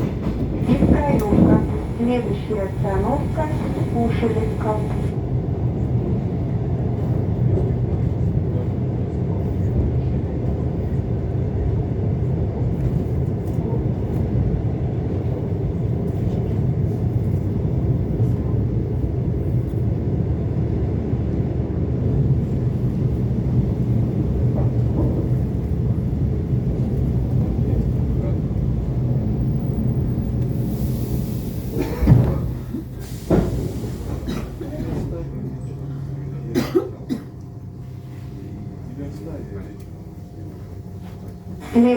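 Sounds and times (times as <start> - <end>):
train rumbling on track: 0.0 - 41.9.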